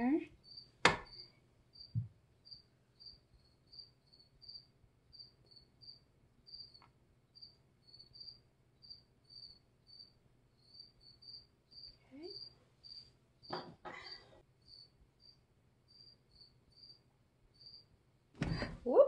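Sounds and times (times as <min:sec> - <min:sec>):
cricket chirping: 0:00.4 - 0:13.7, 0:14.6 - 0:18.0.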